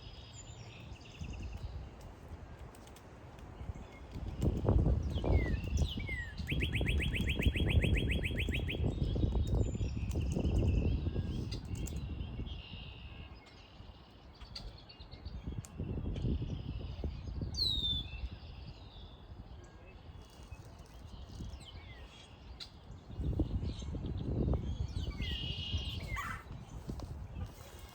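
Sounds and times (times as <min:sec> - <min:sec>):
small birds chirping: 0:00.0 - 0:27.9
wind rumble on microphone: 0:00.0 - 0:27.9.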